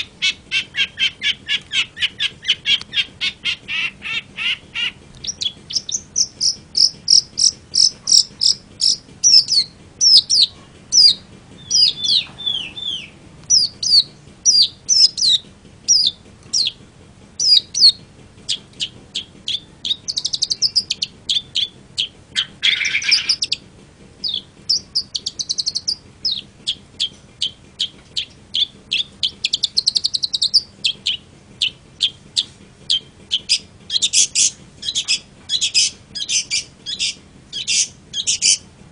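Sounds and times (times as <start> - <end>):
bird singing chirps and whistles: 0.0 - 16.8, 17.4 - 23.6, 24.2 - 38.6.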